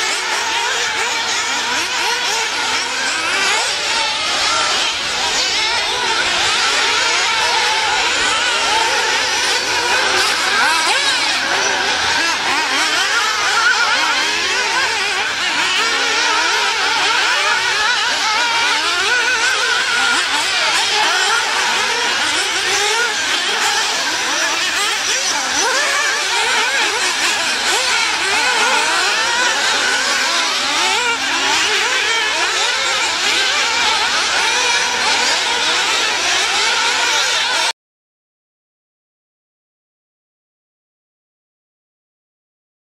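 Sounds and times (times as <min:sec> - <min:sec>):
small high-revving engines: 0:00.0 - 0:37.8.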